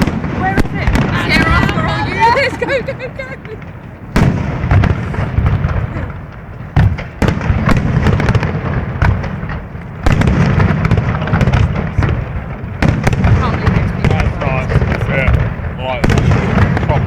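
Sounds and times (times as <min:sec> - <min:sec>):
fireworks crackling and rumbling: 0:00.0 - 0:17.0
firework shell bursts and bangs: 0:02.8 - 0:17.0.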